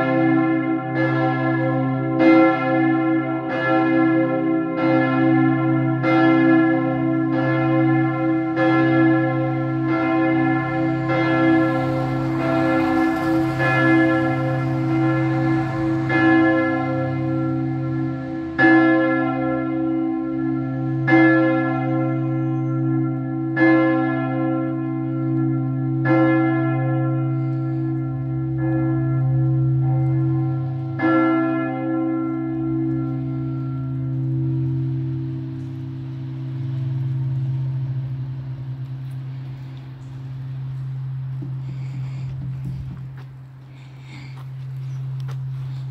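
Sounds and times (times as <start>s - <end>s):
church bells ringing: 0.0s - 45.9s
deep bell hum: 0.0s - 45.9s.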